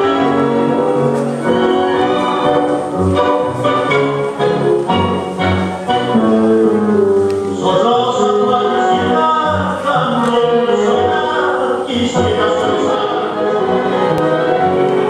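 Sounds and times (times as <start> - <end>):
tango music over sound system: 0.0 - 15.0.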